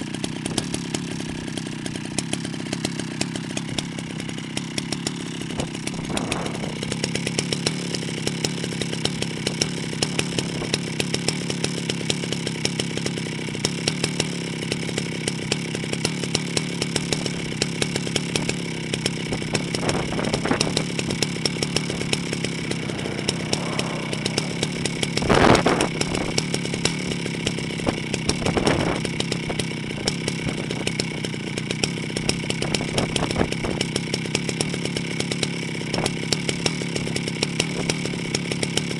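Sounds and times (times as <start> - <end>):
chainsaw engine running: 0.0 - 38.9.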